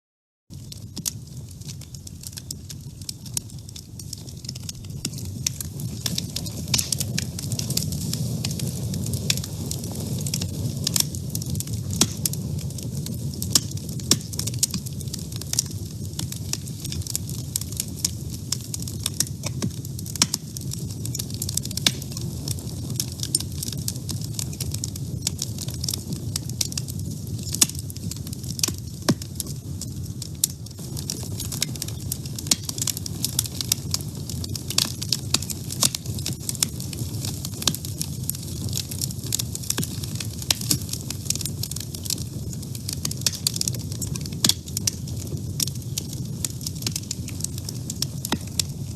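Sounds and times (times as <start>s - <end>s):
logs crackling and popping: 0.5s - 48.9s
wood fire rumbling in a stove: 0.5s - 48.9s.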